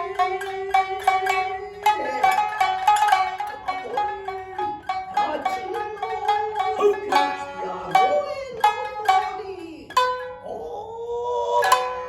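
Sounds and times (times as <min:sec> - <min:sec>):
shamisen plucked: 0:00.0 - 0:10.7, 0:11.4 - 0:12.0
higher-tuned shamisen: 0:00.0 - 0:12.0
person chanting: 0:00.0 - 0:12.0.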